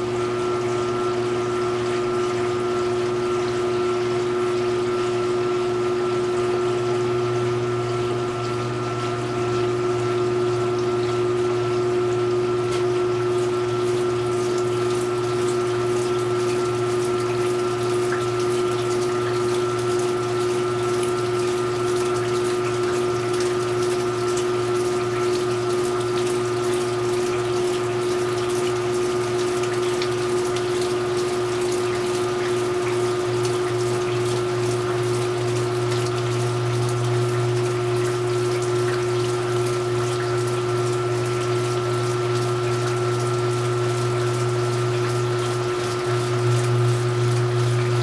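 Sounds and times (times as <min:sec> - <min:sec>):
washing machine pump humming: 0:00.0 - 0:48.0
water draining: 0:06.1 - 0:48.0.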